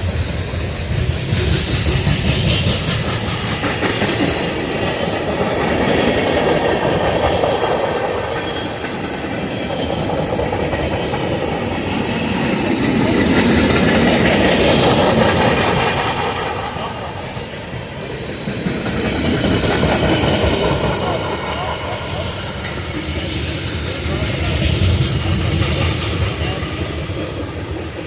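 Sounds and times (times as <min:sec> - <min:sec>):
freight train wheels on rails: 0:00.0 - 0:28.0.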